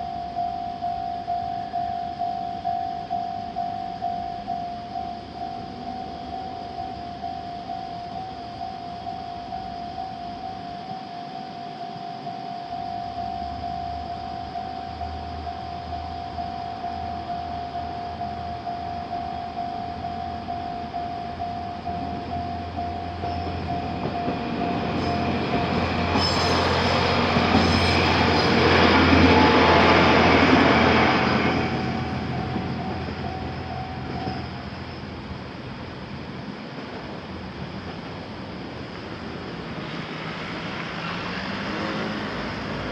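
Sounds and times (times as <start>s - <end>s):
level crossing warning bell: 0.0s - 35.9s
diesel train passing: 0.0s - 42.9s.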